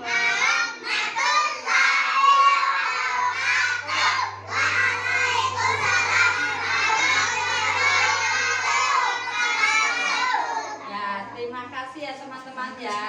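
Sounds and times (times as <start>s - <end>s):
children shouting and chattering: 0.0s - 11.4s.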